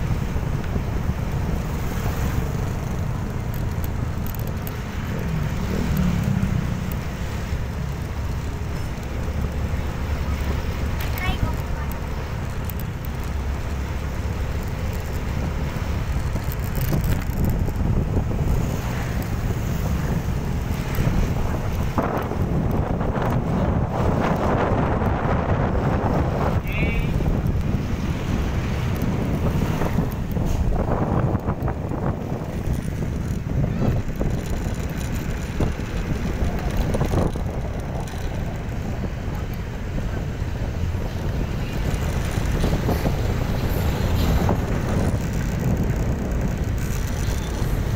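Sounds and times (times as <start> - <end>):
motorcycle engine rumble: 0.0 - 47.9
wind buffeting microphone: 0.0 - 47.9.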